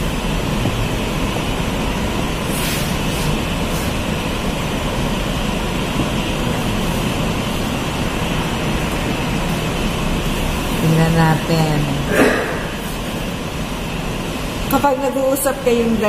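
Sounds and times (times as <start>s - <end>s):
air conditioning rumble and hiss: 0.0s - 16.0s.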